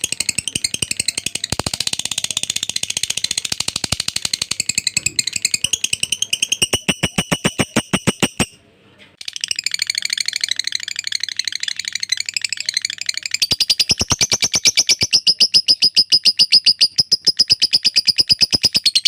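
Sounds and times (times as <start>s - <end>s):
lovebird chirping chatter: 0.0s - 8.6s, 9.2s - 19.0s.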